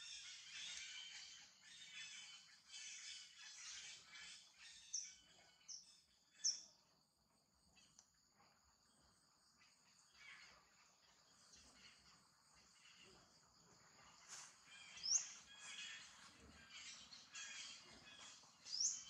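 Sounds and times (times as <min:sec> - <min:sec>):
birds chirping: 0:00.0 - 0:06.9, 0:09.6 - 0:19.0.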